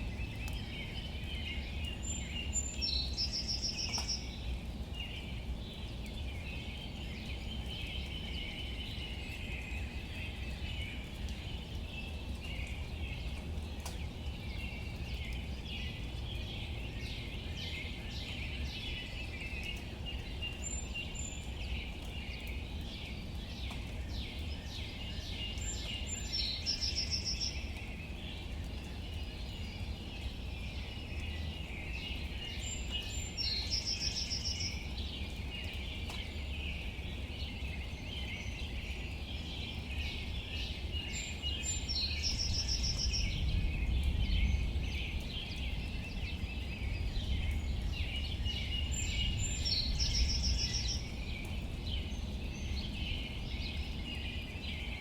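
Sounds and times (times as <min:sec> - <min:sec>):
bird singing: 0:00.0 - 0:55.0
rain falling on leaves: 0:00.0 - 0:55.0.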